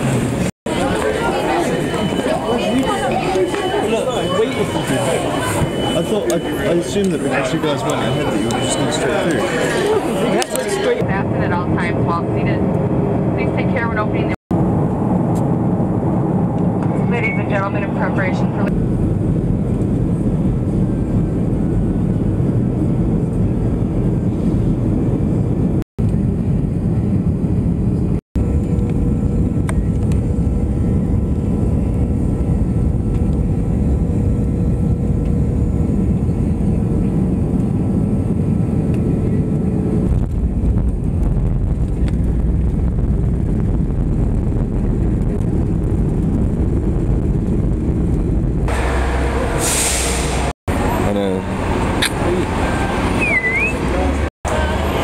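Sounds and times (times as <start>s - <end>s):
airliner engines and rushing air: 0.0s - 55.0s.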